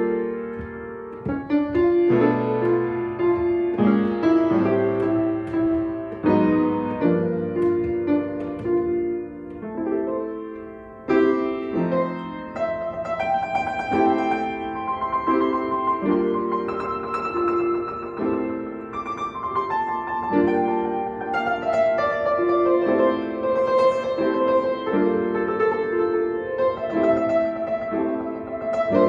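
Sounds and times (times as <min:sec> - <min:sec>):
piano playing chords and melody: 0:00.0 - 0:29.0.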